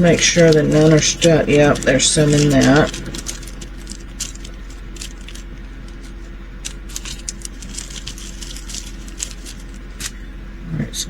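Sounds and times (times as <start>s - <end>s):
plastic beads rattling into tray: 0.0s - 10.2s.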